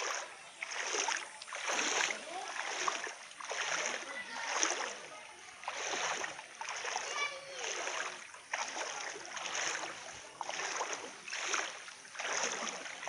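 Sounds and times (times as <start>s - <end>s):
footsteps sloshing through water: 0.0s - 13.0s.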